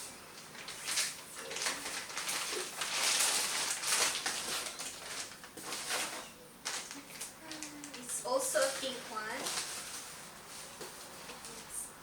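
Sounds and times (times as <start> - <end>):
packaging rustling and crinkling: 0.0 - 11.8.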